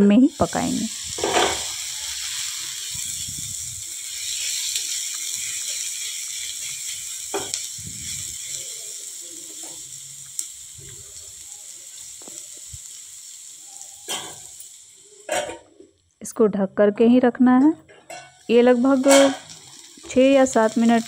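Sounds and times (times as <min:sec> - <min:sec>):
onions sizzling in oil: 0:00.0 - 0:16.3, 0:18.1 - 0:21.0.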